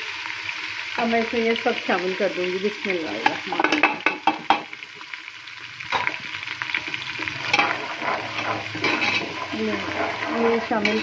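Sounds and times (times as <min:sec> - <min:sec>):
onions sizzling in a pot: 0:00.0 - 0:11.0.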